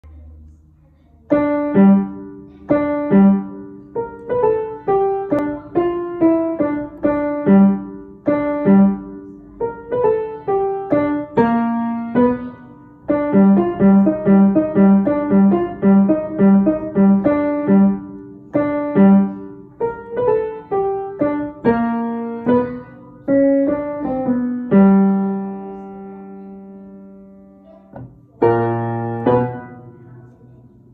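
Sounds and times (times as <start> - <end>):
blues piano: 1.3 - 30.9.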